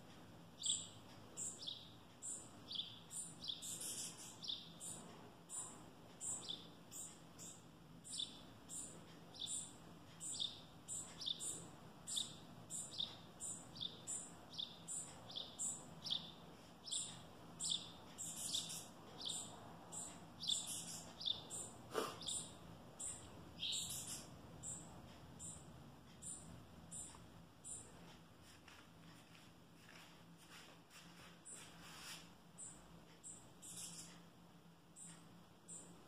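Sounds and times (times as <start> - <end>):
sparrow chirping: 0.6 - 28.1, 32.6 - 34.3, 34.9 - 36.0.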